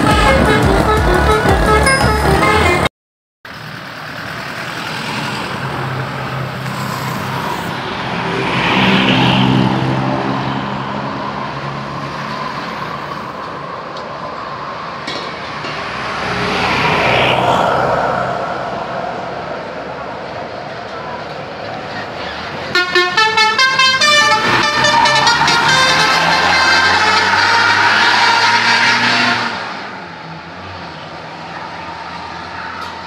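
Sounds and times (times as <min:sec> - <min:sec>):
heavy vehicle engine drone: 0:00.0 - 0:02.9, 0:03.5 - 0:33.0
road traffic rushing: 0:00.0 - 0:02.9, 0:03.5 - 0:33.0.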